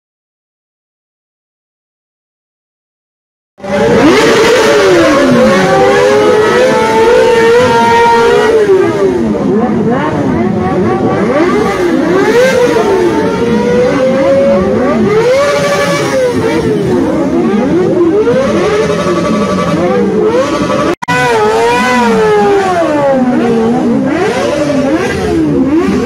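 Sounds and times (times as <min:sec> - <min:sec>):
motorcycles revving past: 0:03.6 - 0:26.0.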